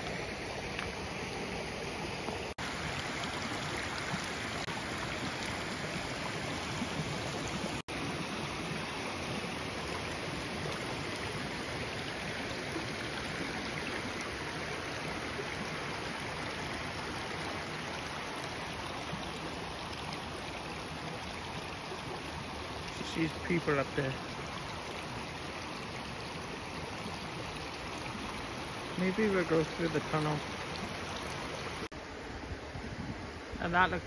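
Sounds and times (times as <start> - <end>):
creek water running over rocks: 0.0 - 34.0.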